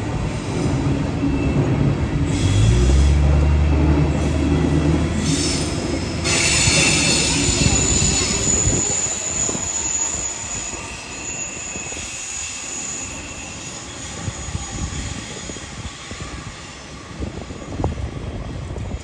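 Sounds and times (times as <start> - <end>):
rumble of wheels on rail: 0.0 - 19.0
high wheel squeal: 0.6 - 17.8.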